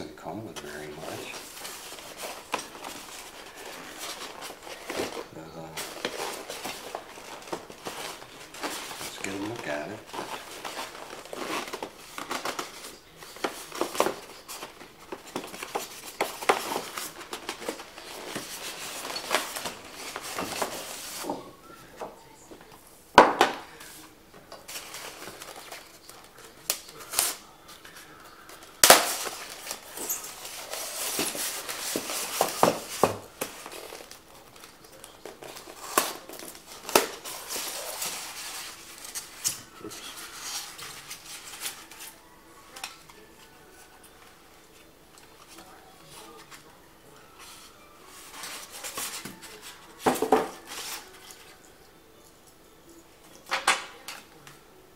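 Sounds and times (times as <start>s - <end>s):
cardboard and foam rustling: 0.3s - 21.6s, 22.6s - 51.6s.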